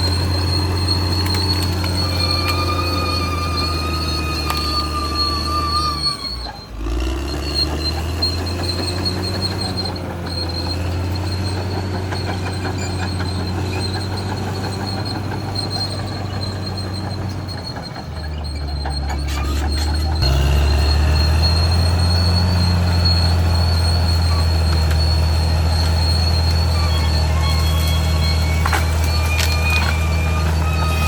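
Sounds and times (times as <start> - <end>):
bulldozer diesel engine humming: 0.0 - 31.0
steel tracks clanking: 0.0 - 31.0
thin high squeal: 0.0 - 31.0.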